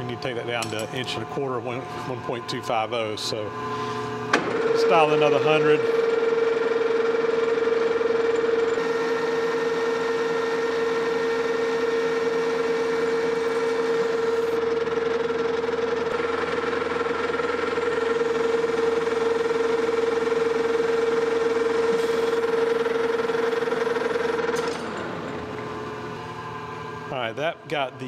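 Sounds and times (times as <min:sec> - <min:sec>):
metal lathe whining: 0:00.0 - 0:28.0.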